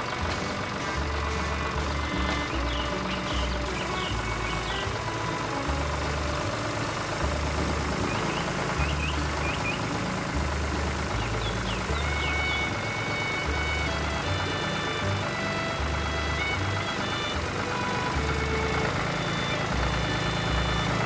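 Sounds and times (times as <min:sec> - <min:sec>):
background music with bass line: 0:00.0 - 0:21.0
cartoon tractor engine running: 0:00.0 - 0:21.0.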